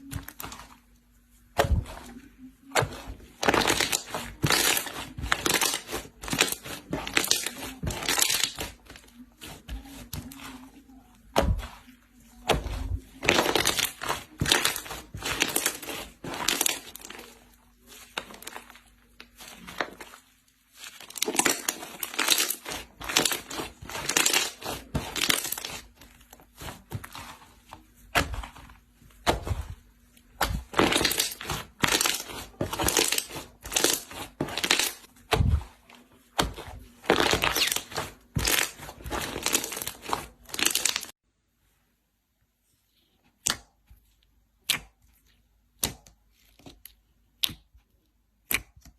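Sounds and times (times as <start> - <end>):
hands squelching slime: 0.0 - 41.2, 43.3 - 48.9.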